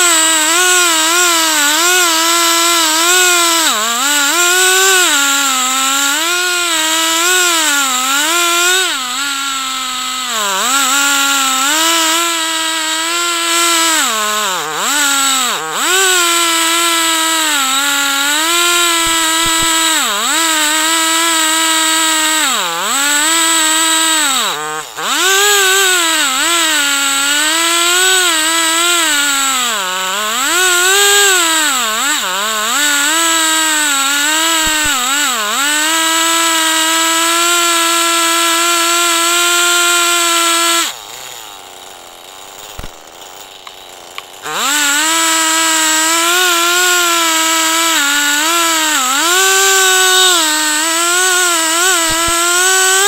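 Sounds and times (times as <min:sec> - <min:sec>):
chainsaw cutting a log: 0:00.0 - 0:53.0.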